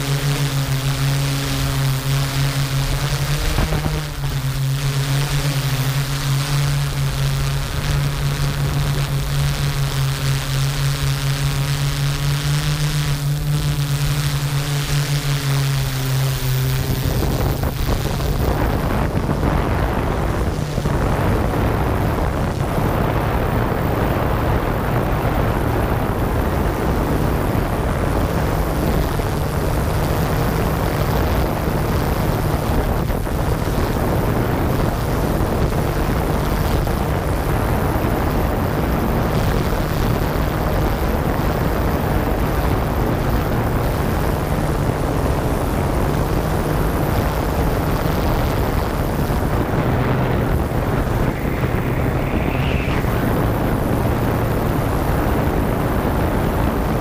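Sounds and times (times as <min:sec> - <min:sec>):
drone motors and propellers humming: 0:00.0 - 0:57.0.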